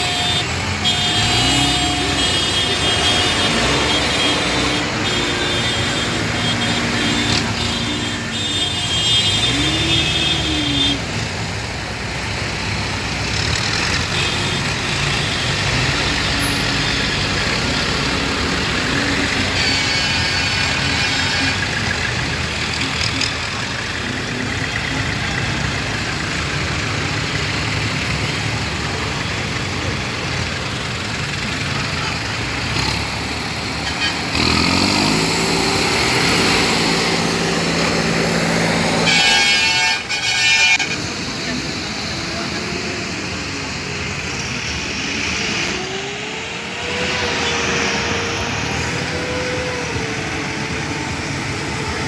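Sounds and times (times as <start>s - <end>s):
tractor diesel engines: 0.0s - 52.0s.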